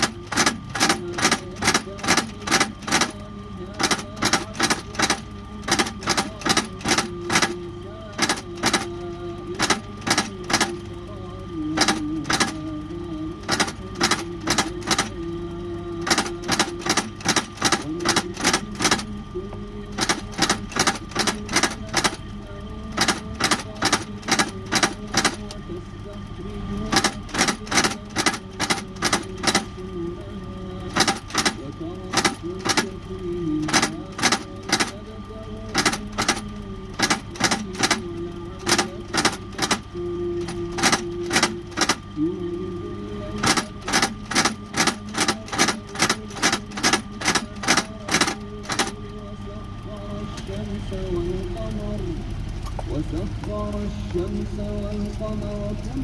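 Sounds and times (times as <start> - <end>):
faint steady hum: 0.0 - 56.0
held chant-like tone: 0.0 - 56.0.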